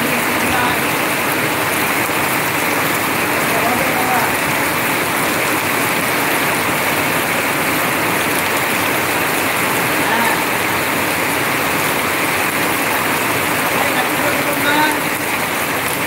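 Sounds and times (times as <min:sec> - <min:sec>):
heavy rain: 0:00.0 - 0:16.0
water pouring off roof: 0:00.0 - 0:16.0.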